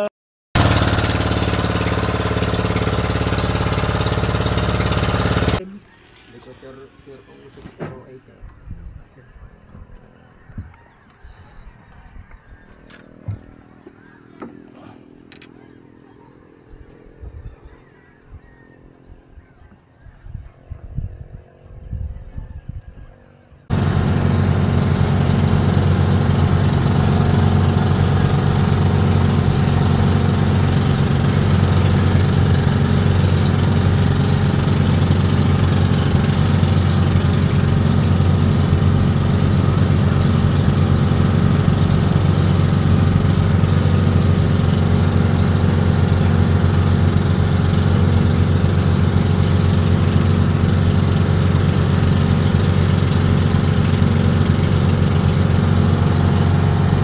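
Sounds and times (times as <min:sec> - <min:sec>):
boat engine droning: 0:00.0 - 0:20.0, 0:23.2 - 0:57.0.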